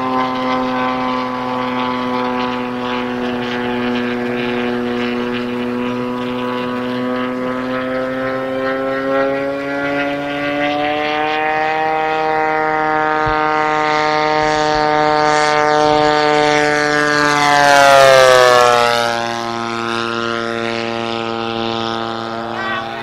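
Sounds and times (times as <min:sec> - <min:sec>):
model plane engine drone: 0:00.0 - 0:23.0.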